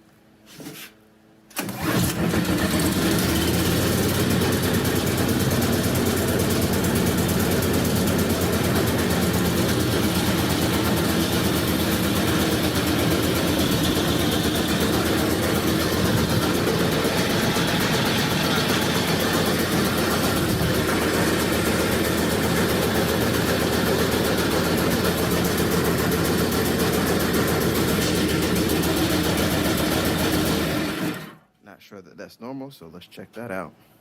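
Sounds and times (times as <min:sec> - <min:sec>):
snowblower engine starting and running: 0:01.5 - 0:31.5.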